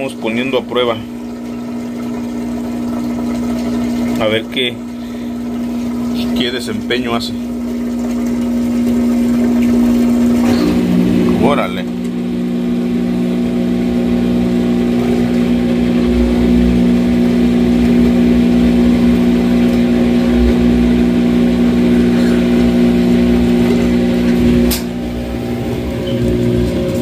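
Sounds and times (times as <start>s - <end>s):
washer drain pump humming: 0.0s - 27.0s.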